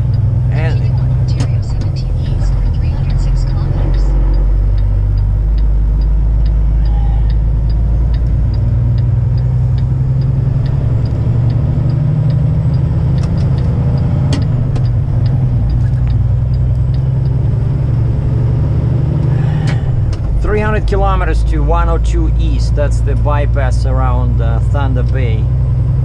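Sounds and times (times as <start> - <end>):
light regular ticking: 0.0 - 22.9
truck diesel engine droning: 0.0 - 26.0.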